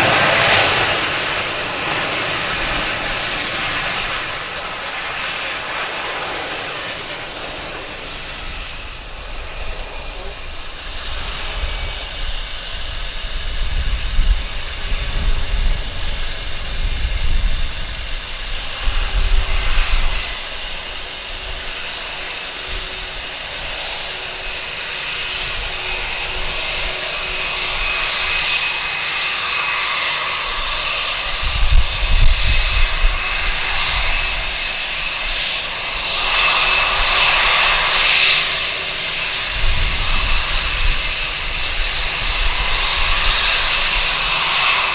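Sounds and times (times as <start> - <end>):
jet engines whining: 0.0 - 44.9
low rumbling gusts: 0.0 - 44.9.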